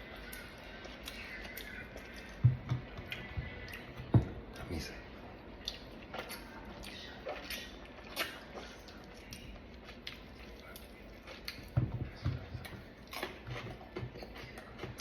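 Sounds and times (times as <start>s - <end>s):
person chewing fruit: 0.0s - 15.0s.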